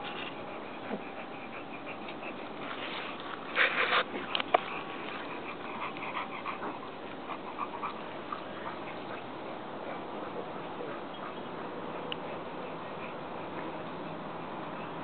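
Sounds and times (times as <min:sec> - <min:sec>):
small dogs playing: 0:00.0 - 0:15.0.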